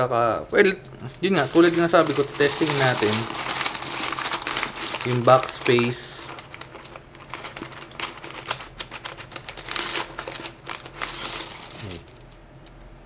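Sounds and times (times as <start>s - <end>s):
packaging rustling: 1.0s - 12.4s
plastic keycaps clattering: 1.0s - 12.7s.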